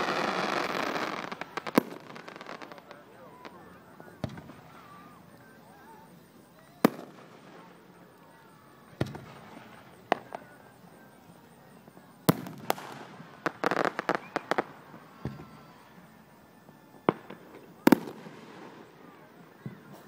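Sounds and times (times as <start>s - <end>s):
fireworks bangs: 0.0s - 10.9s, 11.7s - 20.0s
crackling hiss: 0.0s - 20.0s.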